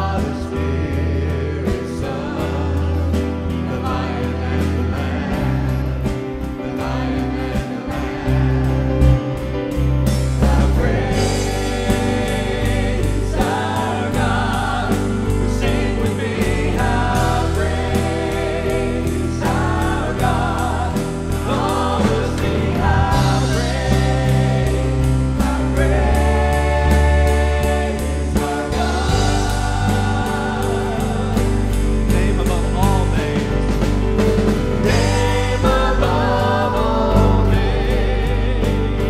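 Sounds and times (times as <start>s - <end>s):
band with strong bass: 0.0s - 39.0s
group singing worship song: 0.0s - 39.0s.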